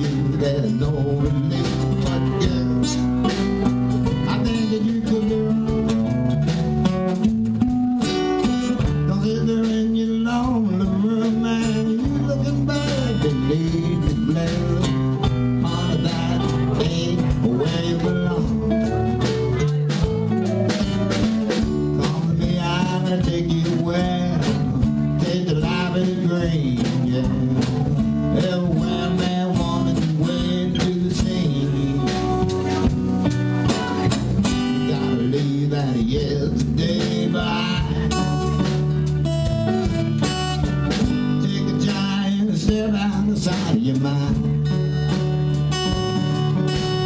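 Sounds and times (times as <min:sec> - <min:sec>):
bass: 0:00.0 - 0:47.0
drums keeping a steady beat: 0:00.0 - 0:47.0
lead guitar with bent notes: 0:00.0 - 0:47.0
strummed acoustic guitar: 0:00.0 - 0:47.0.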